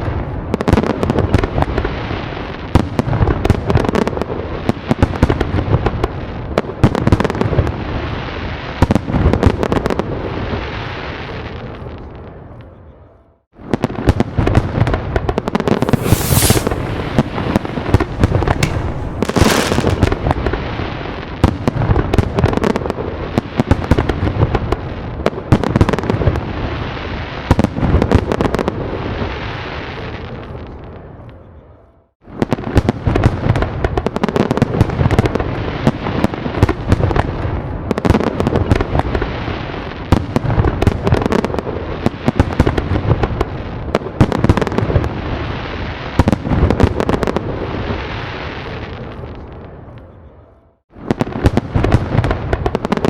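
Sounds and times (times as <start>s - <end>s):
fireworks bangs and crackling: 0.0s - 12.4s, 13.6s - 31.2s, 32.2s - 50.1s, 50.9s - 53.0s.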